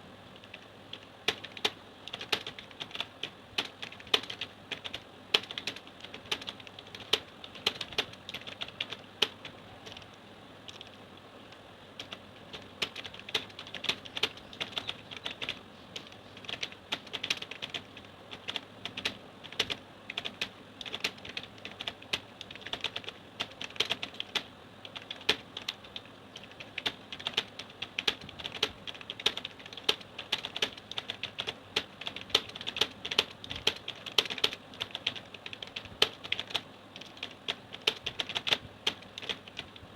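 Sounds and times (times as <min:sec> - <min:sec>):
keyboard typing: 0:00.4 - 0:39.9.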